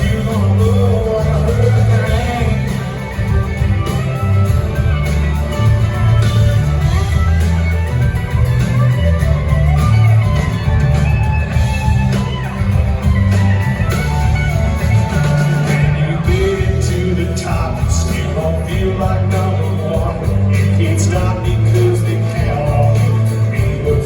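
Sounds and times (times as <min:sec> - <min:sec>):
live country-rock band playing: 0:00.0 - 0:24.0.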